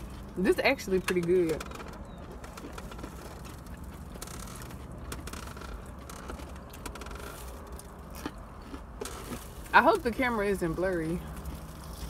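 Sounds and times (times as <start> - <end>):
chewing and crunching: 0.0 - 12.0.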